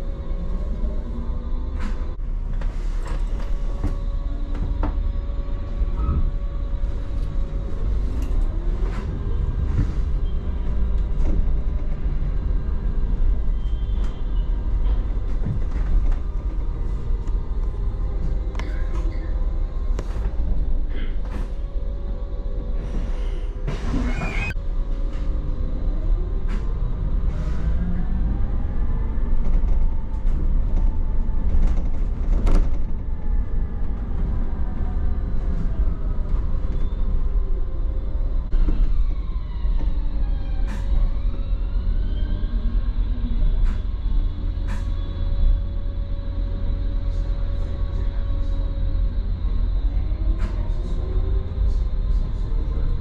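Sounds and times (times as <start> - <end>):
low road rumble: 0.0 - 53.0.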